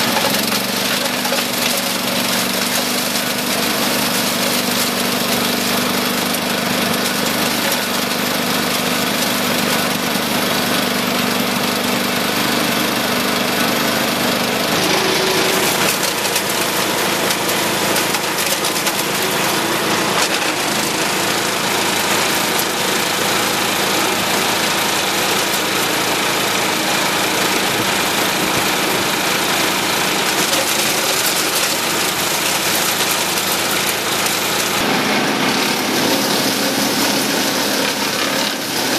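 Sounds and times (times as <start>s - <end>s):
garden waste being shredded: 0.0s - 38.9s
wood chipper engine running: 0.0s - 38.9s.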